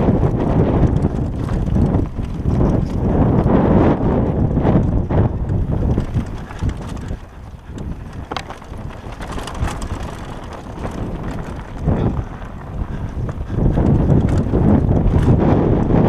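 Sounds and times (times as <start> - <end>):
tyres rolling over dirt and stones: 0.0 - 3.5, 4.8 - 15.4
bike rattling clicks: 0.0 - 16.0
wind buffeting microphone: 0.0 - 16.0.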